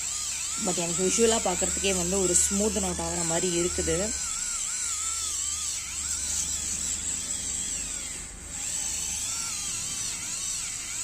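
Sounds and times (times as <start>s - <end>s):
electric callus remover buzzing: 0.0s - 11.0s.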